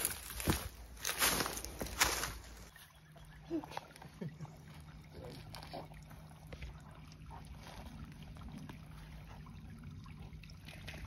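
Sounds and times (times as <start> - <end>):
low steady hum: 0.0 - 11.0
trickle of creek water: 0.0 - 11.0.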